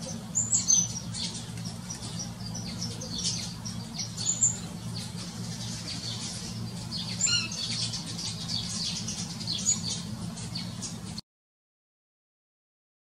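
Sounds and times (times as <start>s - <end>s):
sparrows chirping: 0.0s - 11.2s
steady low hum: 0.0s - 11.2s.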